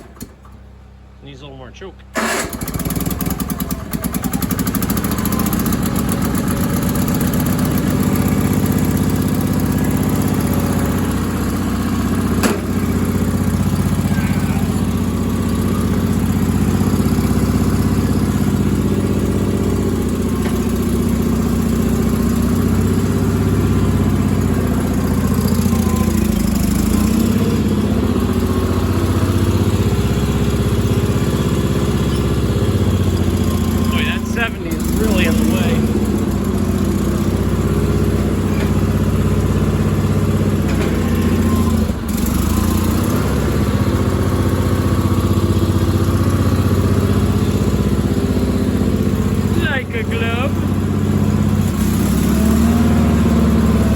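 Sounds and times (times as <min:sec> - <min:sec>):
garden tractor engine running: 0:00.0 - 0:53.9.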